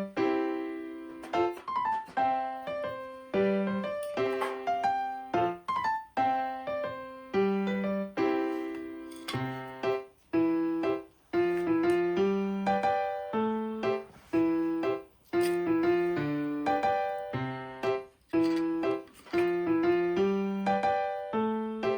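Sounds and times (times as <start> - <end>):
slow piano music: 0.0 - 21.9.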